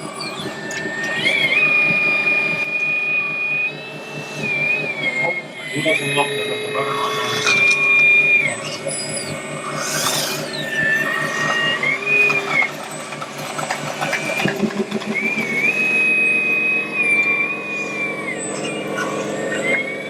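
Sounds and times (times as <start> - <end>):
low rapid chugging: 0.0 - 20.0
small electric motors whining: 0.0 - 20.0.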